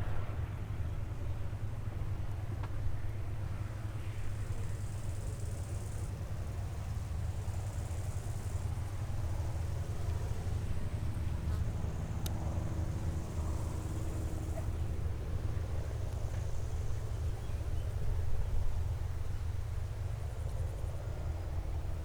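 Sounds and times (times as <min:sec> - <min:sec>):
piston aircraft engine rumbling: 0:00.0 - 0:22.0.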